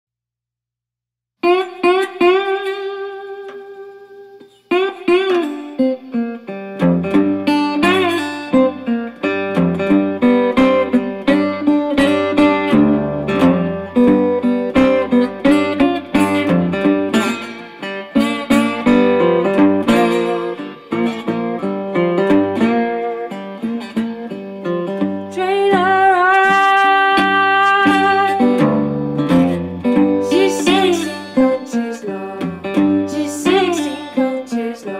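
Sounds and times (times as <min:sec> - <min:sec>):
fingerpicked resonator guitar: 0:01.4 - 0:34.9.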